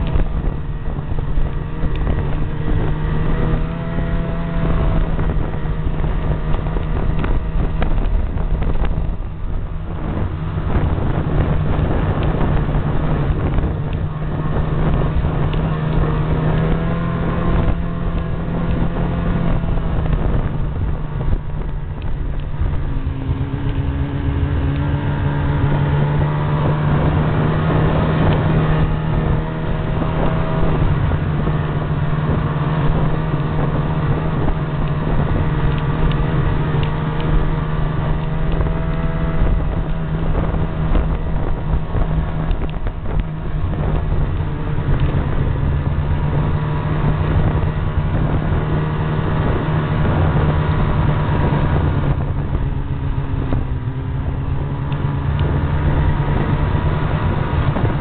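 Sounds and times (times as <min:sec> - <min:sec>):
snowmobile engine drone: 0:00.0 - 0:58.0.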